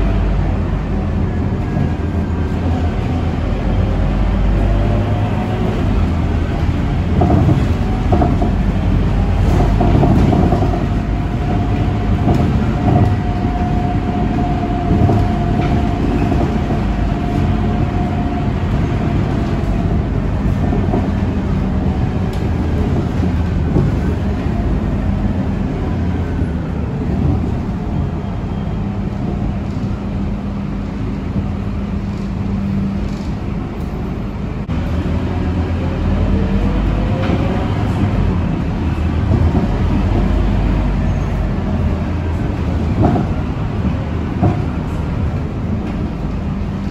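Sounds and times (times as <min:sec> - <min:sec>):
bus diesel engine running: 0:00.0 - 0:46.9
road and tyre noise: 0:00.0 - 0:46.9.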